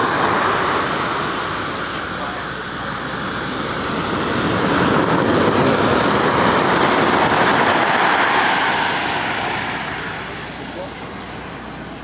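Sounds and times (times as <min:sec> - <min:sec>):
model jet turbine flying past: 0:00.0 - 0:12.0.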